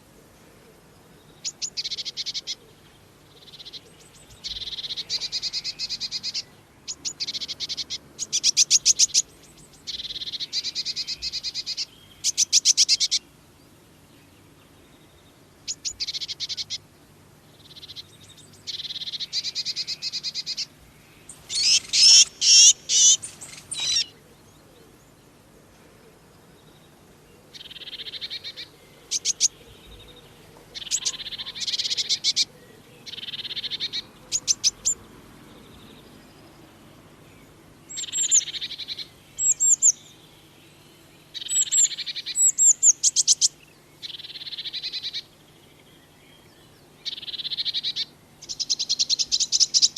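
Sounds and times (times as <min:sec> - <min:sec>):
birds chirping rapidly: 0:01.3 - 0:25.1, 0:26.6 - 0:49.9.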